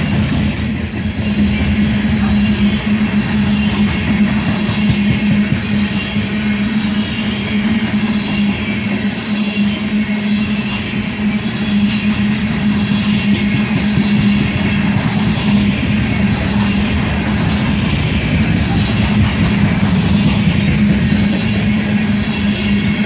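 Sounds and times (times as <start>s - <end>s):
constant low hum: 0.0s - 23.0s
train wheels rolling on rails: 0.0s - 23.0s.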